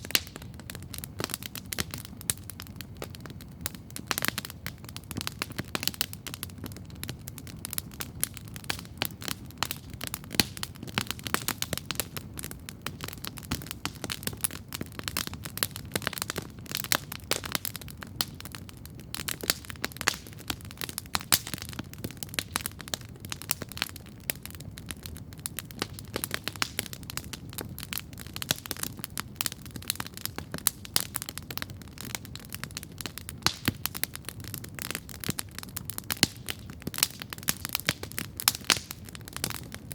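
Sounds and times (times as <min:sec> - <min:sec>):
campfire snaps and pops: 0:00.0 - 0:39.9
low fire rumble: 0:00.0 - 0:39.9.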